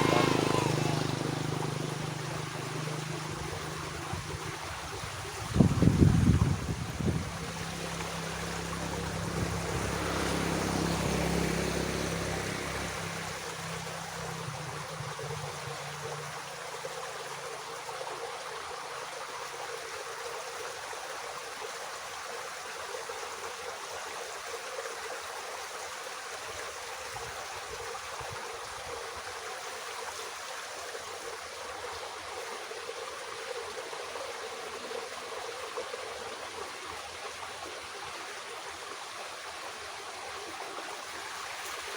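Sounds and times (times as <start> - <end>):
water running in ditch: 0.0 - 41.9.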